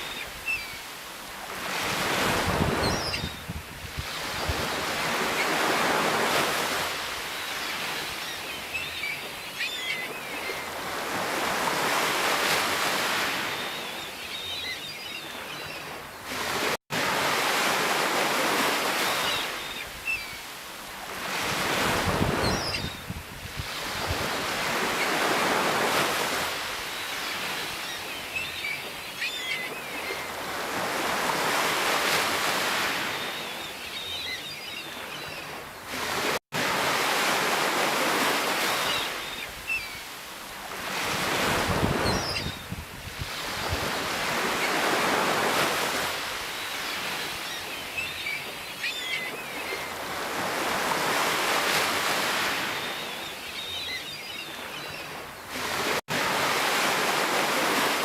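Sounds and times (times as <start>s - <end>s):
sea waves breaking: 0.0s - 22.8s, 23.4s - 58.0s.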